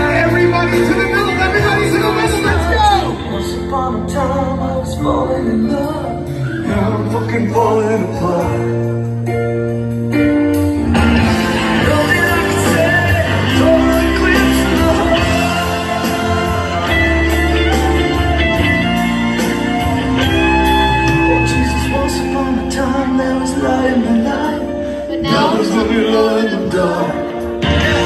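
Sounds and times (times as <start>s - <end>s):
pop music with singing: 0.0s - 28.0s.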